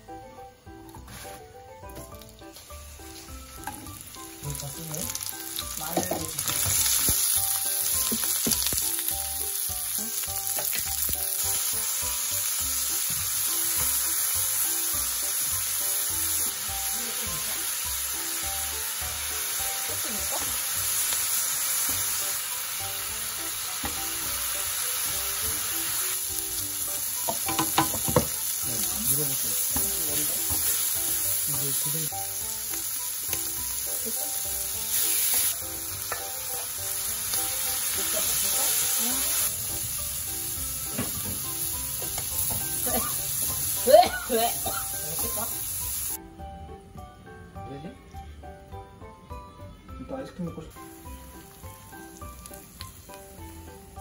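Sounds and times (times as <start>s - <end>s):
vegetables sizzling in oil: 0.0s - 46.2s, 50.7s - 54.0s.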